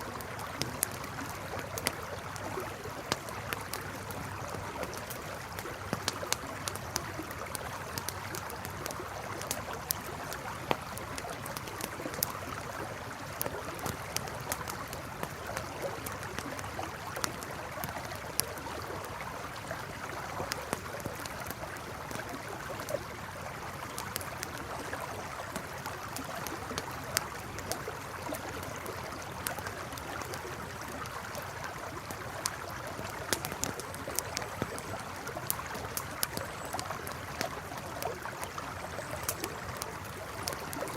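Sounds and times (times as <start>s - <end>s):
campfire crackling and popping: 0.0s - 40.9s
flowing river: 0.0s - 40.9s.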